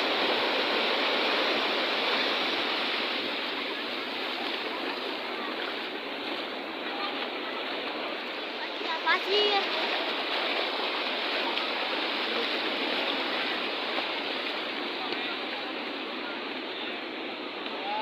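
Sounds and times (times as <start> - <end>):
ocean surf washing on beach: 0.0 - 18.0.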